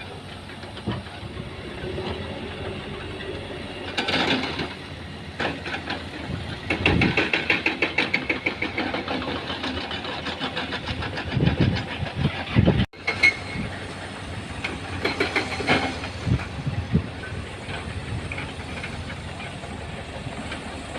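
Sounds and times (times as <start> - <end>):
heavy diesel machinery running: 0.0 - 20.9.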